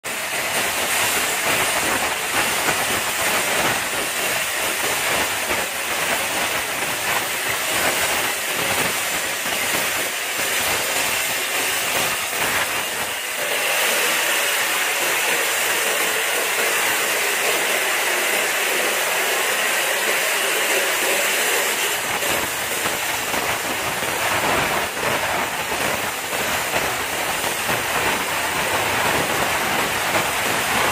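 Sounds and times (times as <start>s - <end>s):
steam hissing from valve: 0.1s - 30.9s.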